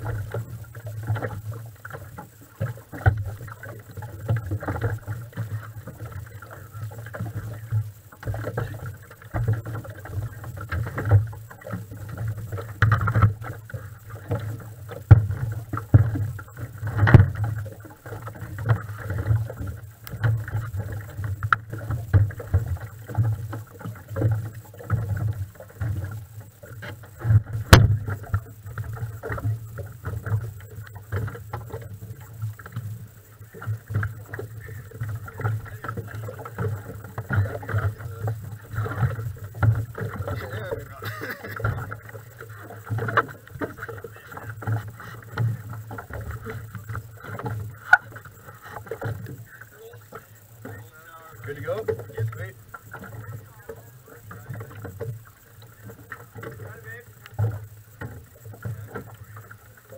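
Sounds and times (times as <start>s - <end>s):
small waves lapping against hull: 0.0s - 59.9s.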